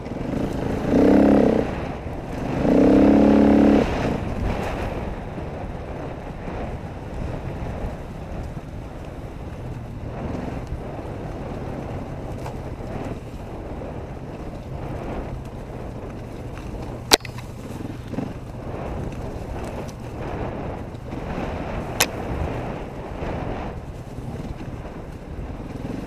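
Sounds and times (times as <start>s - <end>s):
dirt bike engine running: 0.0s - 26.0s
wind on microphone: 0.0s - 26.0s.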